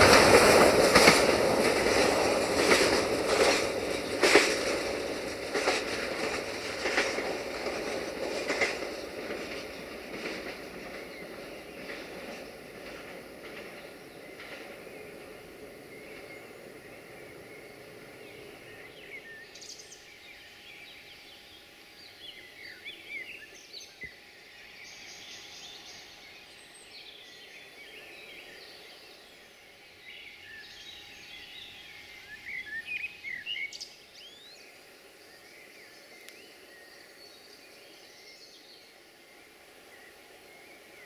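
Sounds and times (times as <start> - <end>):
birds chirping and singing: 0.3 - 41.0.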